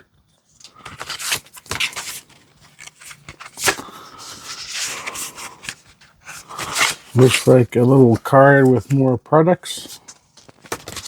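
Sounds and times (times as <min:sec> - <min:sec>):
paper rustling and scraping: 0:00.6 - 0:09.1, 0:09.7 - 0:11.0.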